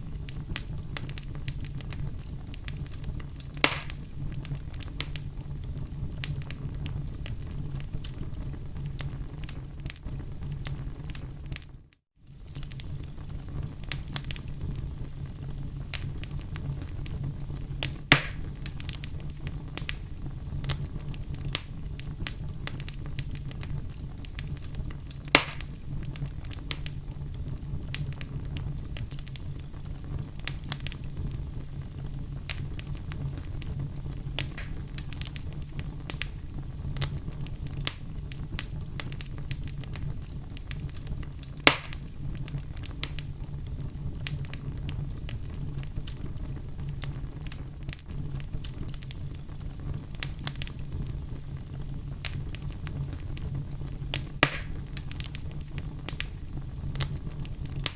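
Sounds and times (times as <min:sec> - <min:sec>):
fire low rumble: 0:00.0 - 0:57.9
loud fire pops: 0:00.0 - 0:57.9
wood fire crackling: 0:00.0 - 0:57.9.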